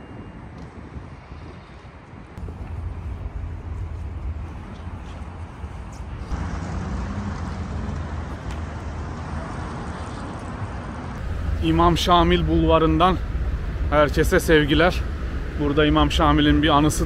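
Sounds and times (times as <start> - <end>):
road traffic rumble: 0.1 - 17.0.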